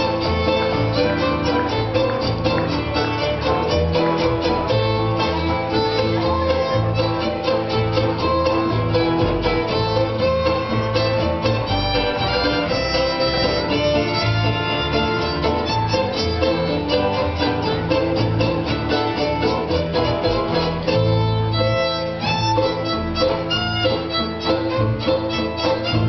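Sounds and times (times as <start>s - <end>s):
acoustic jazz band playing: 0.0s - 26.0s.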